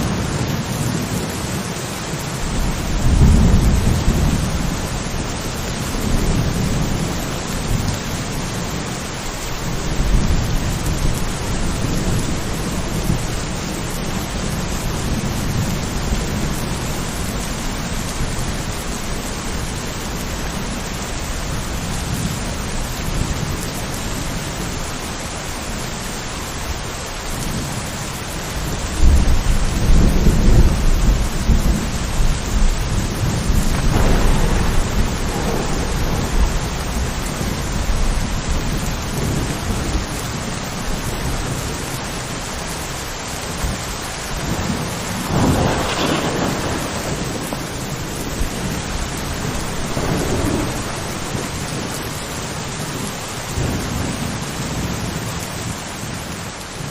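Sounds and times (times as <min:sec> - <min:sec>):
thunder rumbling: 0:00.0 - 0:25.6, 0:27.3 - 0:56.9
steady rain falling: 0:00.0 - 0:56.9.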